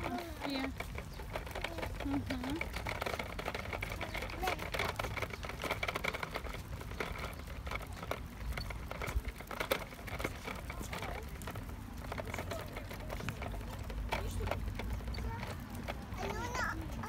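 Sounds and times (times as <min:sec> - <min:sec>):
plastic wheels rattling on paving: 0:00.0 - 0:17.0.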